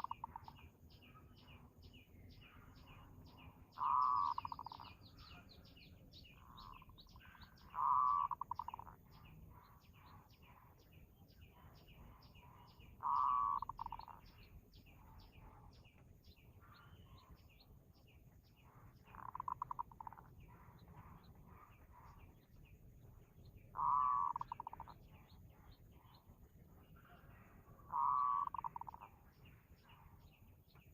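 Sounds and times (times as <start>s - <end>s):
bird trilled call: 0.0s - 1.7s, 2.4s - 17.7s, 18.6s - 22.6s, 23.5s - 26.3s, 27.0s - 30.2s
small birds chirping: 0.0s - 30.9s.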